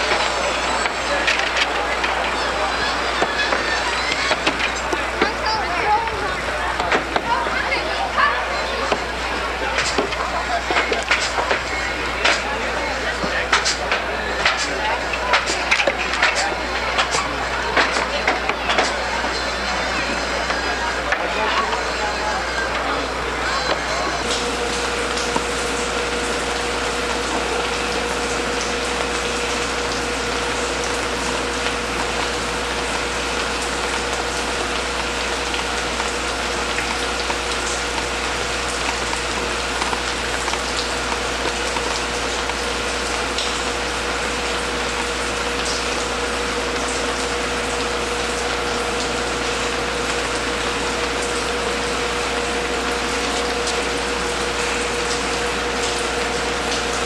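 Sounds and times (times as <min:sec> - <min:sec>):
mid-pitched hum: 0:00.0 - 0:57.0.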